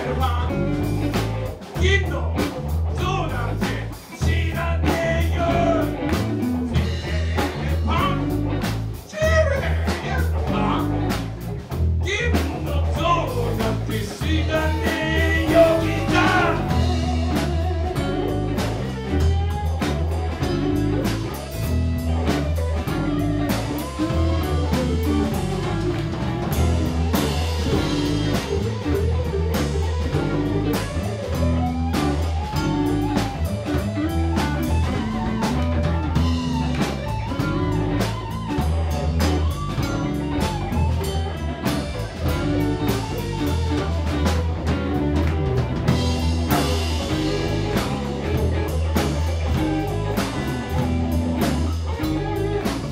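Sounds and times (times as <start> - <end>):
drum kit beat: 0.0 - 52.9
electric guitars: 0.0 - 52.9
low bass line: 0.0 - 52.9.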